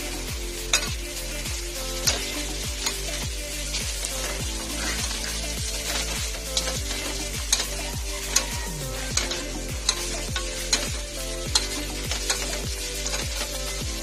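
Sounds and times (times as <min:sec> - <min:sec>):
metal spatula scraping a wok: 0:00.0 - 0:13.8
hot oil sizzling: 0:00.0 - 0:14.0.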